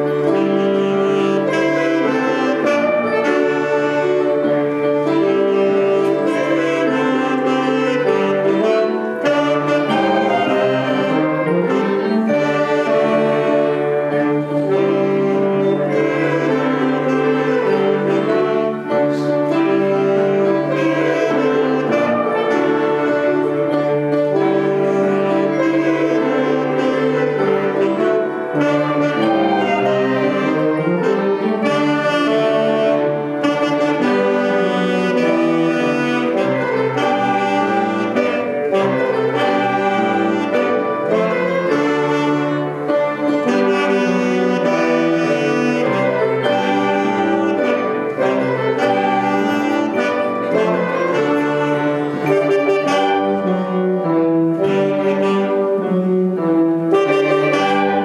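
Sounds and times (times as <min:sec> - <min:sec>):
concert band playing: 0:00.0 - 0:58.0.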